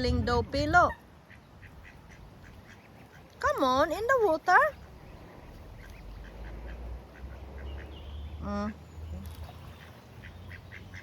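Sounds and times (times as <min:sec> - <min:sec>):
ducks quacking: 0:00.6 - 0:08.8, 0:09.6 - 0:11.0.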